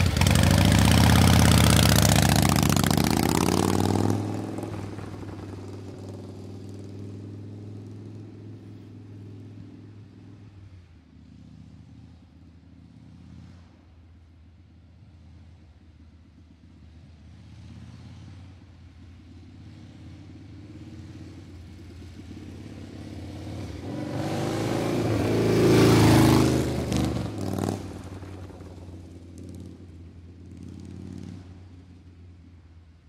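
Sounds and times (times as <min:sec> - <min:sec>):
vehicle passing by: 0:00.0 - 0:14.0, 0:17.2 - 0:32.4.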